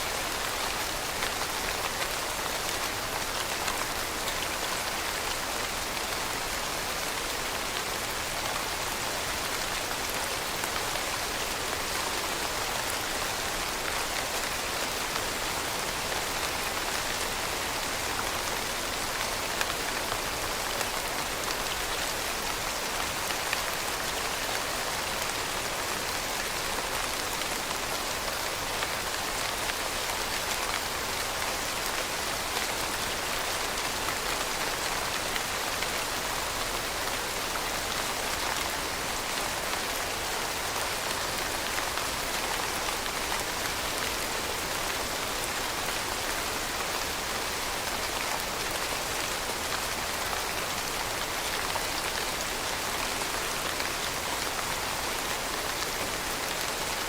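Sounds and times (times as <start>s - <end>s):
rain pattering: 0.1s - 57.0s.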